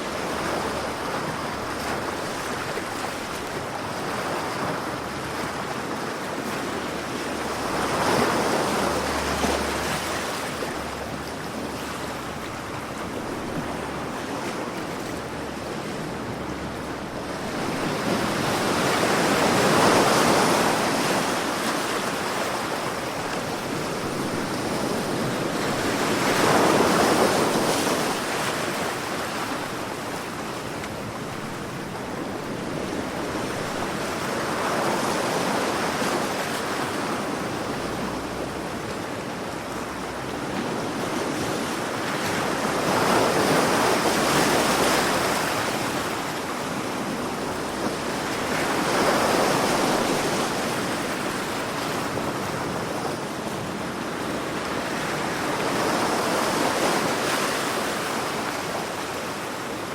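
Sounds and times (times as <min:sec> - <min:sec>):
sea waves breaking on shore: 0:00.0 - 0:59.9
surf hiss: 0:00.0 - 0:59.9.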